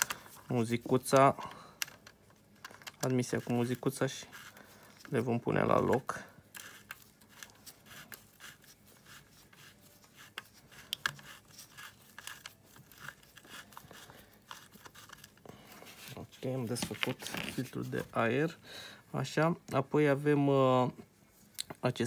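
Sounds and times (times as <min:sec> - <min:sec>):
gloved hands rustling: 0:00.0 - 0:18.5.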